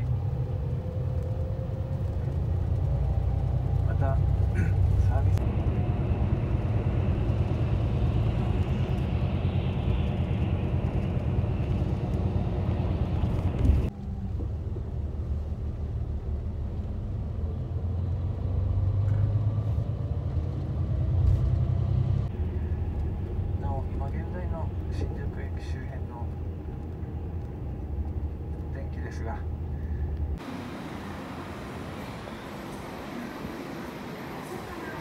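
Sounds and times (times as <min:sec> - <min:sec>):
bus engine rumble and road noise: 0:00.0 - 0:35.0.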